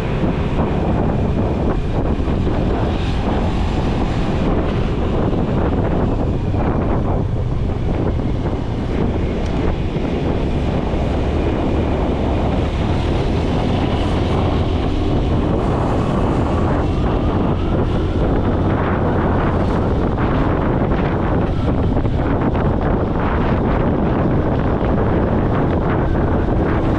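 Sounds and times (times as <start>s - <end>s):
motorcycle engine hum: 0.0s - 26.9s
wind noise on microphone: 0.0s - 26.9s.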